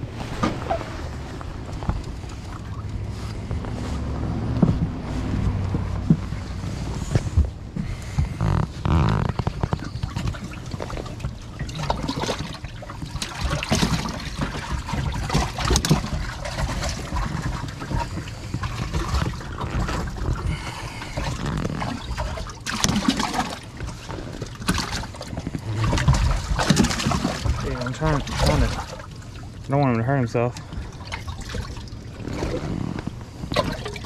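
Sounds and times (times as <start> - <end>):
water trickling and splashing: 0.0 - 7.4, 9.4 - 34.0.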